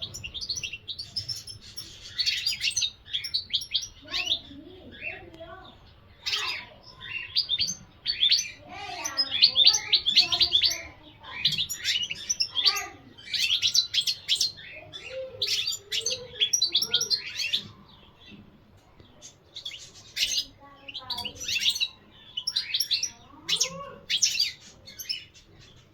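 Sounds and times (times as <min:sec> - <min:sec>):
bird twittering song: 0:00.0 - 0:25.9.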